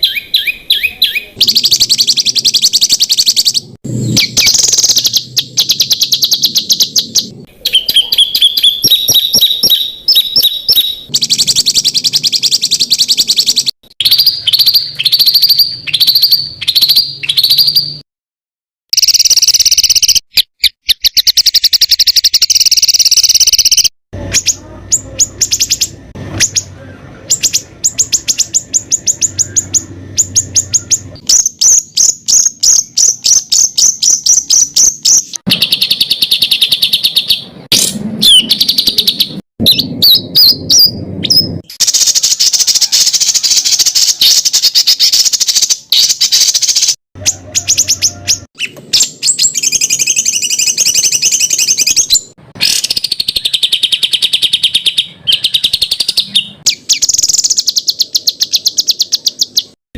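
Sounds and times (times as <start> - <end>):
songbird harsh rapid trills: 0.0 - 18.0, 18.9 - 59.8.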